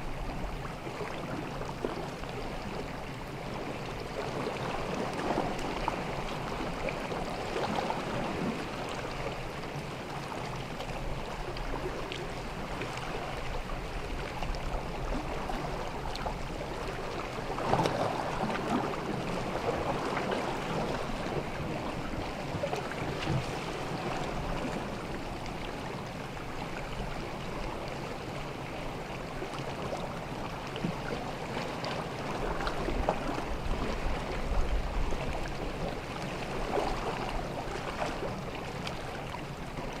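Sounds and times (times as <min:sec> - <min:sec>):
small waves lapping on beach: 0:00.0 - 0:40.0.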